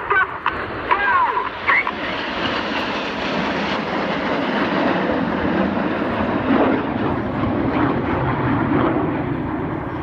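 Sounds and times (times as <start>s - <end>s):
jets rushing overhead: 0.0s - 10.0s.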